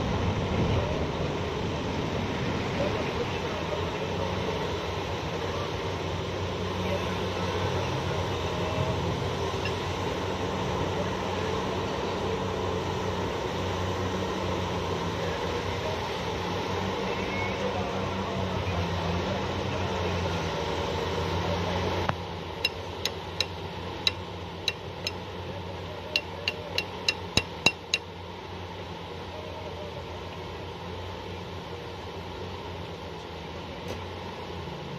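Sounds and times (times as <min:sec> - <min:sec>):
heavy diesel engine droning: 0:00.0 - 0:34.9.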